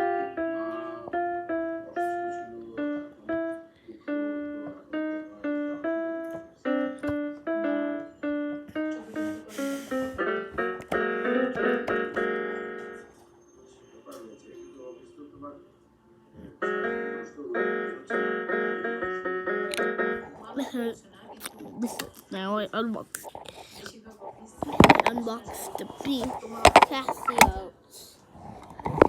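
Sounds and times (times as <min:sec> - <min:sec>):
electronic keyboard playing a tune: 0:00.0 - 0:15.6, 0:16.2 - 0:21.0, 0:24.6 - 0:27.6.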